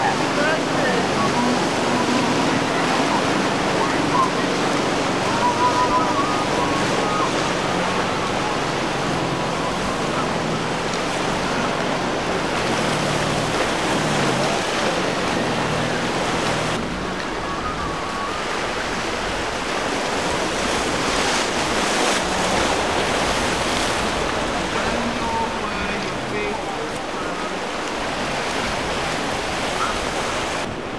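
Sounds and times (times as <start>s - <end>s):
boat engine droning: 0.0s - 30.9s
waves breaking: 0.0s - 30.9s
wind buffeting microphone: 0.0s - 30.9s.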